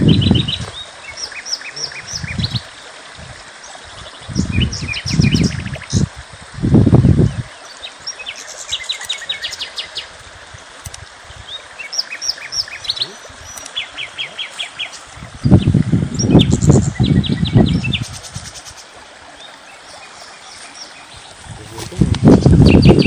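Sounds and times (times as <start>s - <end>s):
small birds chirping: 0.0s - 6.1s, 7.2s - 23.0s.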